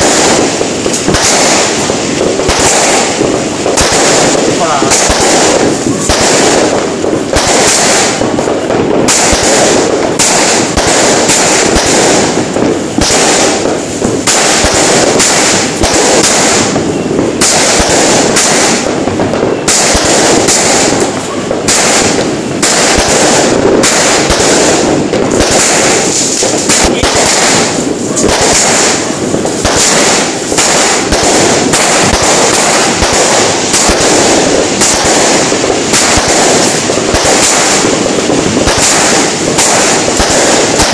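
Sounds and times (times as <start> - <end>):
fireworks banging and crackling: 0.0 - 40.9.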